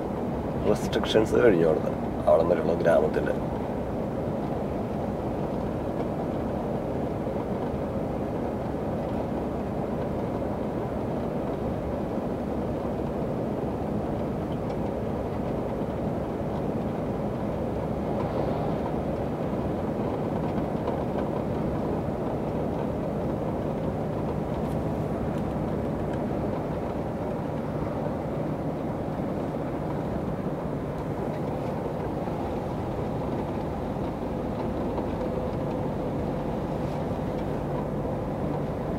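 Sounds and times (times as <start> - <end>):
road and tyre rumble: 0.0 - 38.9
truck engine drone: 0.0 - 38.9.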